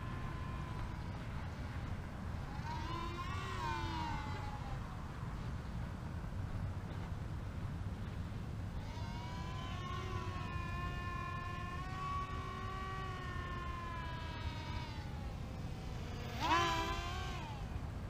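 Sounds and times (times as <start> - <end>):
model plane motors whining: 0.0 - 7.1, 7.8 - 18.0
steady low rumble: 0.0 - 18.0.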